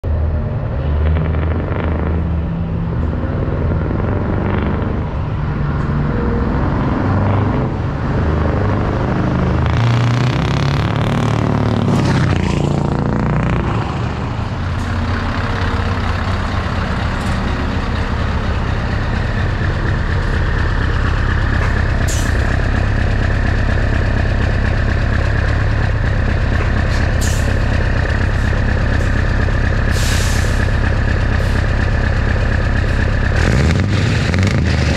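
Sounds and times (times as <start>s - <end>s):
truck diesel engine running: 1.3s - 34.9s.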